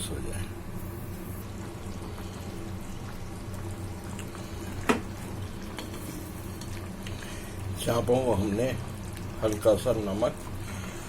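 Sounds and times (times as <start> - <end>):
gravy bubbling in a pan: 0.0 - 11.0
low steady hum: 0.0 - 11.0.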